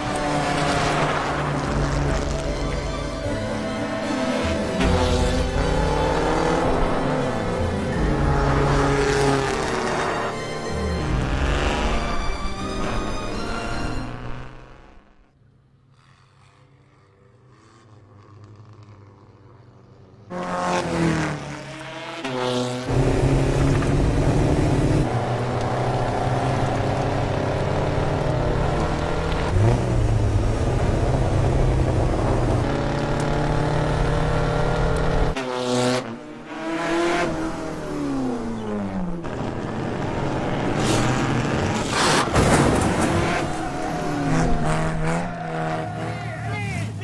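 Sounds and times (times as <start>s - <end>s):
race car engines passing: 0.0s - 13.1s, 15.8s - 47.0s.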